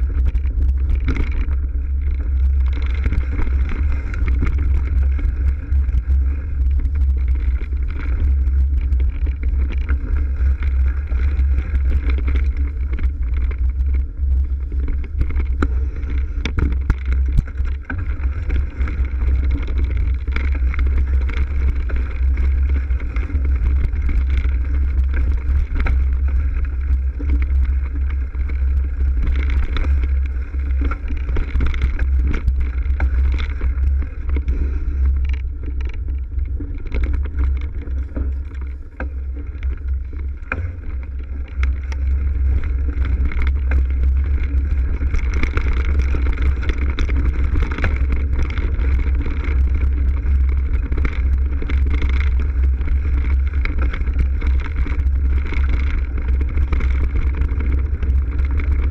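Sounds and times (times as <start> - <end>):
bike rattling and knocking: 0.0 - 58.9
tyre noise on dirt: 0.0 - 58.9
wind rumble on microphone: 0.0 - 58.9.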